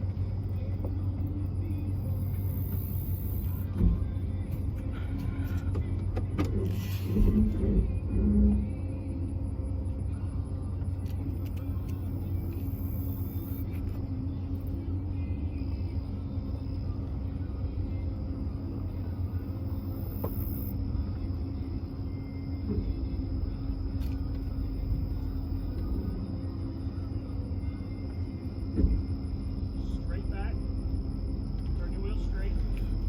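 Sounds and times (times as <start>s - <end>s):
vehicle engine reversing: 0.0s - 33.0s.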